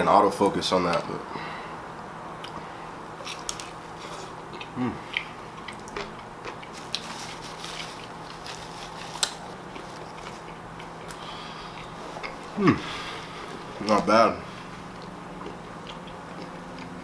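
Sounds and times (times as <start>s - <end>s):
person chewing crunchy food: 2.4s - 12.5s, 13.4s - 17.0s.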